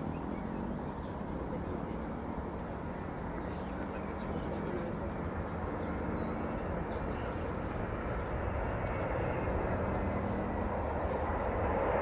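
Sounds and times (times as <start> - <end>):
jet airliner engine rumble: 0.0 - 12.0.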